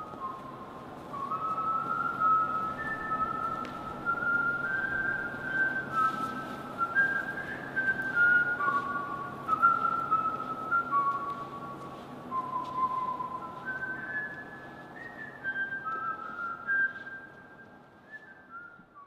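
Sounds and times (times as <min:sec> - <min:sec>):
person whistling a melody: 0:00.0 - 0:19.0.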